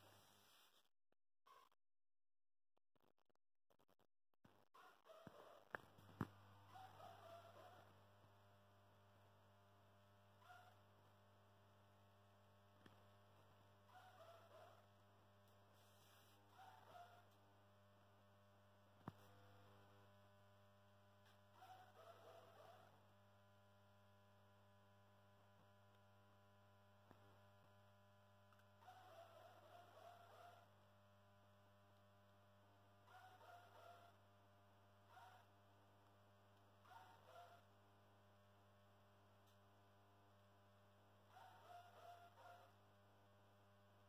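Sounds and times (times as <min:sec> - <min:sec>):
lamp mains hum: 0:05.2 - 0:44.0.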